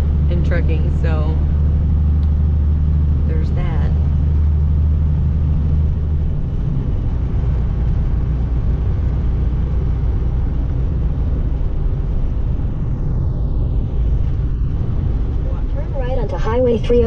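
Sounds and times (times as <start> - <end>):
truck diesel engine rumble: 0.0 - 17.0.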